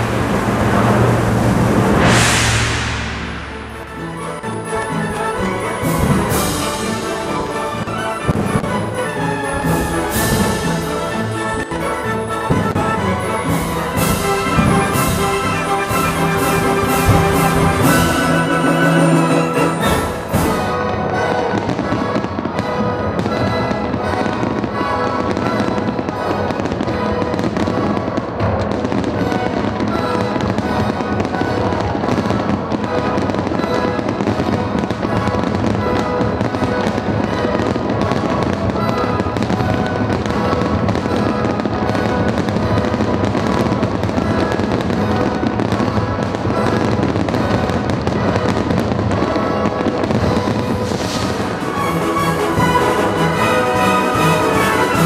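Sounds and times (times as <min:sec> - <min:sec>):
fireworks banging: 0:00.0 - 0:55.0
loud classical music: 0:00.0 - 0:55.0.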